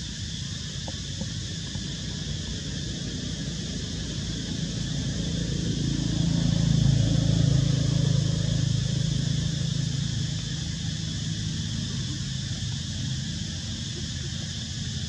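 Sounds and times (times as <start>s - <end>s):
passing vehicle engine hum: 1.4s - 15.0s.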